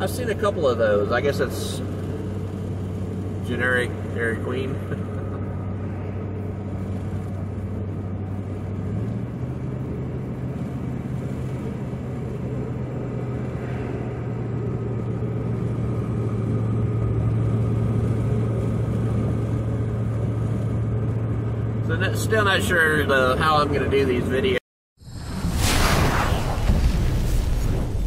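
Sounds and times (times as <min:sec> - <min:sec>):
engine hum inside car: 0:00.0 - 0:24.6
road noise: 0:00.0 - 0:28.0.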